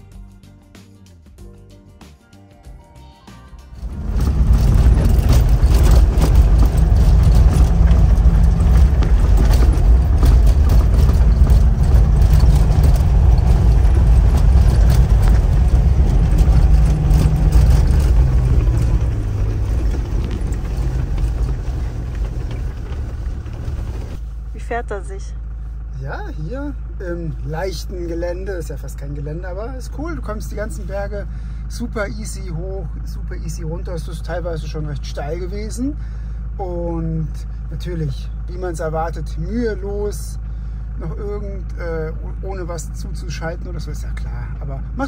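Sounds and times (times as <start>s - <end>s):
engine rumble: 3.2s - 45.0s
vehicle body rattling: 3.8s - 45.0s.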